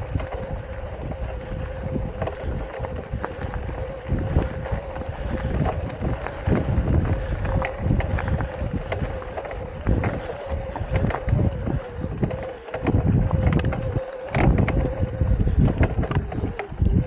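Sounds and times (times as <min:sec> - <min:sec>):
drivetrain clicks and knocks: 0:00.0 - 0:17.0
electric bike motor whining: 0:00.0 - 0:17.0
wind rumble on microphone: 0:00.0 - 0:17.0.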